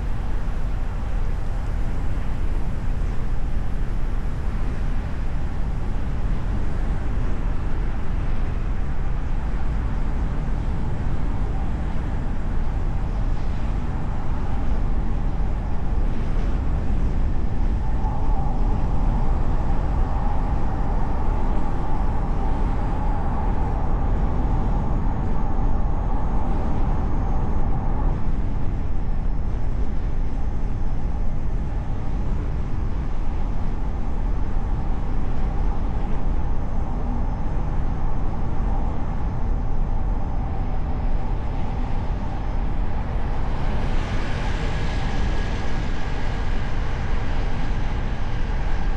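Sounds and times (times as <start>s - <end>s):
steady higher hum: 0.0s - 48.9s.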